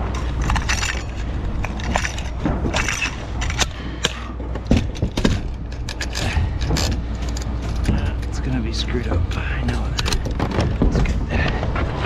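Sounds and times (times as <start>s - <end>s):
nails rattling and clicking: 0.0s - 11.3s.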